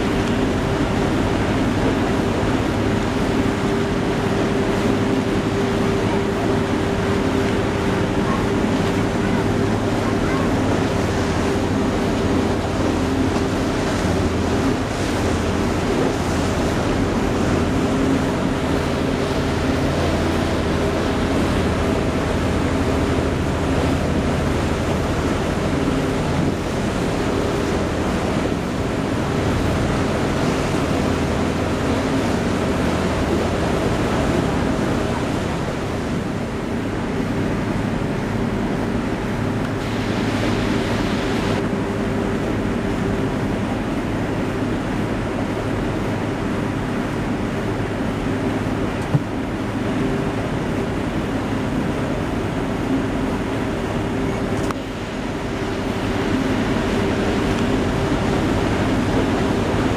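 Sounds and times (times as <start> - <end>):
boat engine drone: 0.0 - 59.9
water washing: 0.0 - 59.9.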